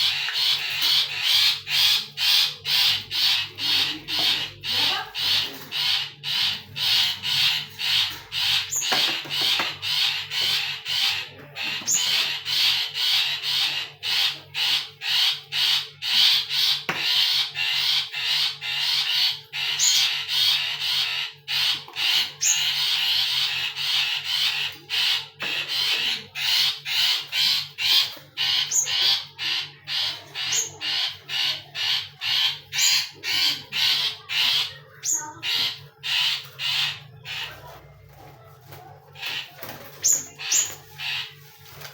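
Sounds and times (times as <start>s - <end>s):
caged birds giving harsh calls: 0.0s - 41.9s.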